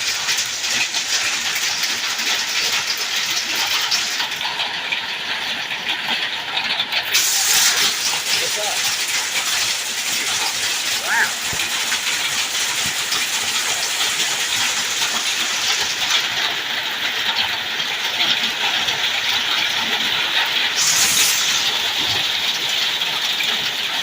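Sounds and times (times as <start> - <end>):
heavy hail striking: 0.0 - 4.5, 7.2 - 24.0.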